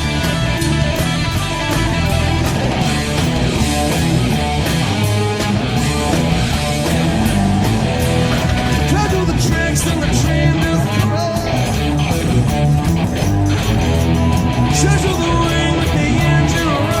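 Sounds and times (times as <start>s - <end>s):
bass guitar: 0.0s - 17.0s
electric ukulele through effects: 0.0s - 17.0s
rock drums: 0.0s - 17.0s.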